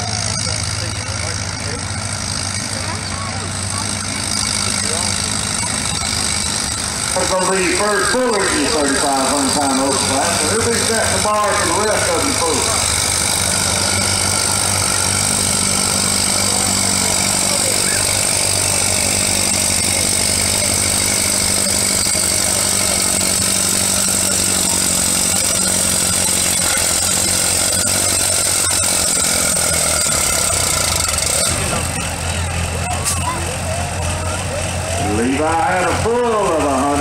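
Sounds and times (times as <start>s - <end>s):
tractor engine running hard: 0.0s - 37.0s.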